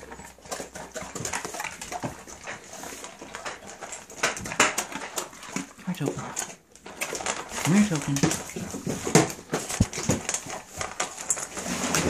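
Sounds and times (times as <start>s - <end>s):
dog crunching dry kibble: 0.0s - 12.0s
kibble clinking against metal bowl: 0.0s - 12.0s.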